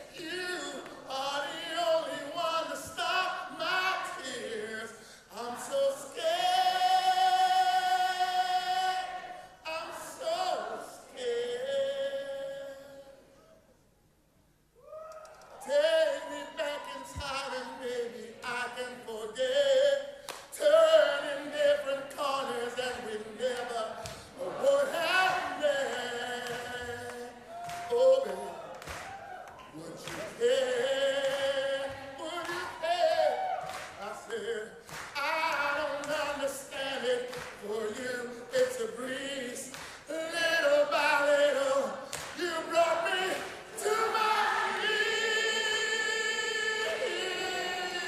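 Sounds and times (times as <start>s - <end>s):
man singing: 0.0s - 13.3s, 15.6s - 28.6s, 29.6s - 48.0s.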